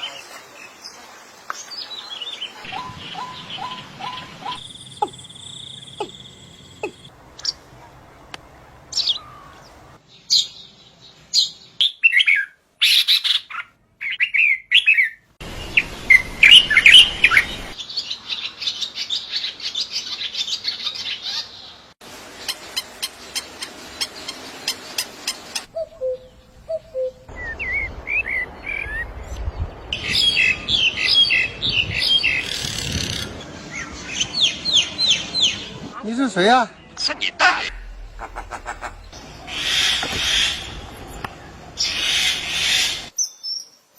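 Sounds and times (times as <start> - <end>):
birds singing and calling: 0.0 - 7.6, 8.9 - 15.2, 16.1 - 21.8, 22.6 - 35.9, 36.7 - 43.8.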